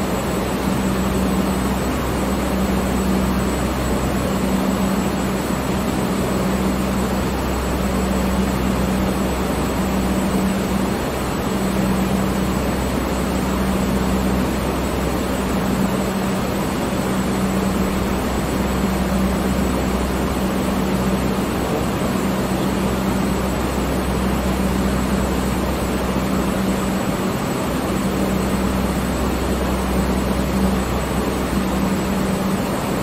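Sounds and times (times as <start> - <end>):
fan air rushing: 0.0 - 33.0
fan motor hum: 0.0 - 33.0.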